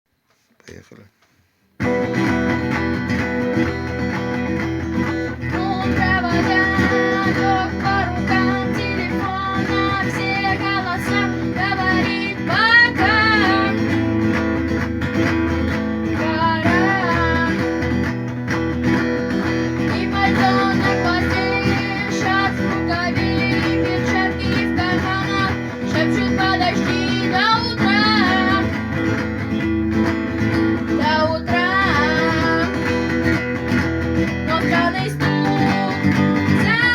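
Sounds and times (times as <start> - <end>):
guitar strumming: 1.8 - 36.9.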